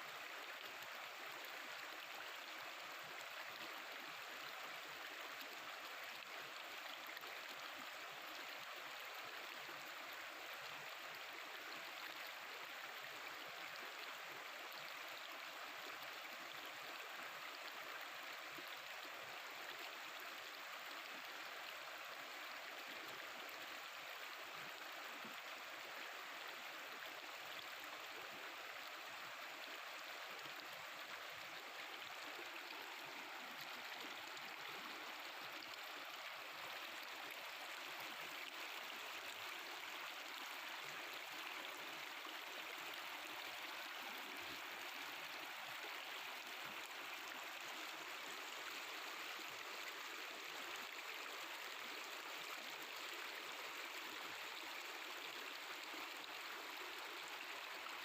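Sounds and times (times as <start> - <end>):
river babbling over stones: 0.0 - 58.0.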